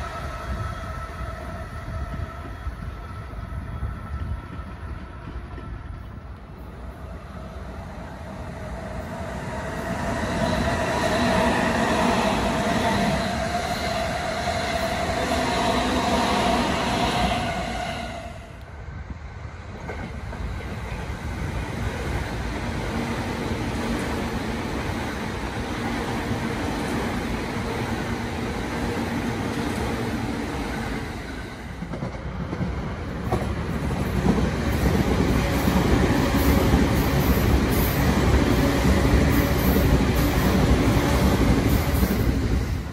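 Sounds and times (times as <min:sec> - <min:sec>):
electric train passing at speed: 0:00.0 - 0:42.9.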